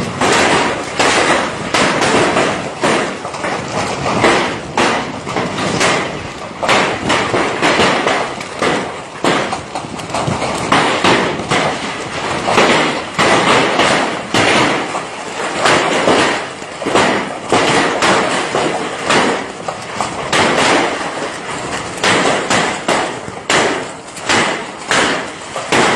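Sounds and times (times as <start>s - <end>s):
heavy rain rushing: 0.0s - 25.9s
stones crashing down a slope: 0.0s - 25.9s.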